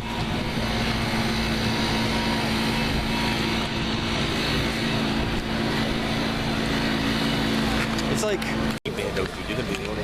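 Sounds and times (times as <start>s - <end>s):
engine drone: 0.0s - 10.0s.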